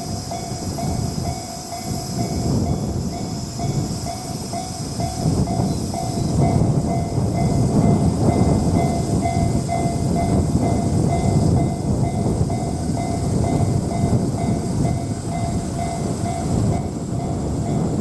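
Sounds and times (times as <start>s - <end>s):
railroad crossing bell ringing: 0.0s - 18.0s
train rumbling past: 0.0s - 18.0s.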